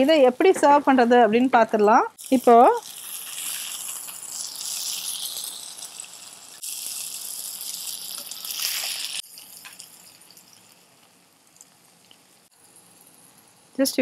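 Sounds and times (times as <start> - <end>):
food sizzling in a pan: 2.2 - 14.0.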